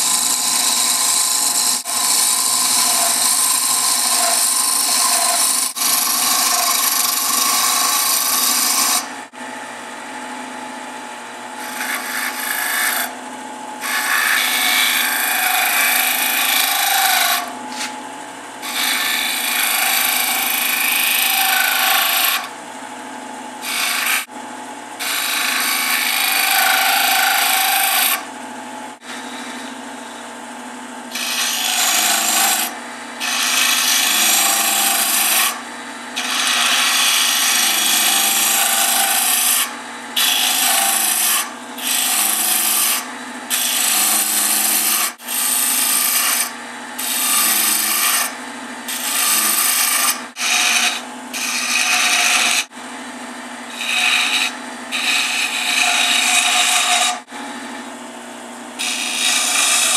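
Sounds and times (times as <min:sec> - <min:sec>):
sandpaper scraping spinning wood: 0:00.0 - 0:09.1, 0:11.6 - 0:13.2, 0:13.8 - 0:18.0, 0:18.6 - 0:22.5, 0:23.6 - 0:24.3, 0:25.0 - 0:28.3, 0:29.0 - 0:30.2, 0:31.1 - 0:35.6, 0:36.2 - 0:52.7, 0:53.7 - 0:57.3, 0:58.8 - 0:59.9
lathe motor hum: 0:00.0 - 0:09.4, 0:11.6 - 0:13.1, 0:13.8 - 0:18.0, 0:18.6 - 0:22.5, 0:23.6 - 0:24.3, 0:25.0 - 0:28.2, 0:29.0 - 0:30.2, 0:31.1 - 0:39.6, 0:40.2 - 0:48.3, 0:48.9 - 0:57.9, 0:58.8 - 0:59.9.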